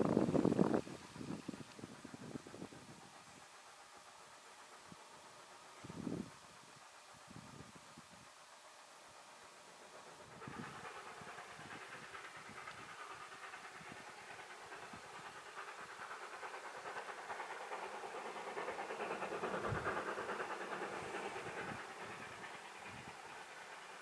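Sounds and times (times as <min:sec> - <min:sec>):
steam hiss: 0:00.0 - 0:24.0
steam locomotive exhaust chuffing: 0:00.0 - 0:24.0.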